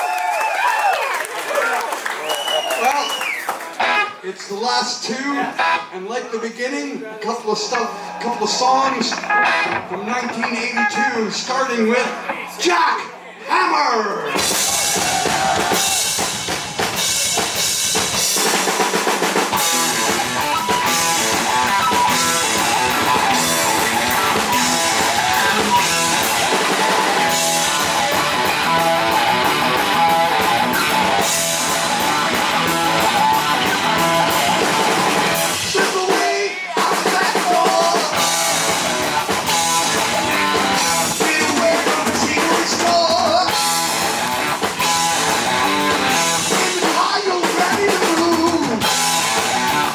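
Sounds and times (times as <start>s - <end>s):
heavy metal band playing: 3.6s - 4.2s, 4.8s - 6.0s, 8.3s - 11.9s, 14.3s - 49.9s.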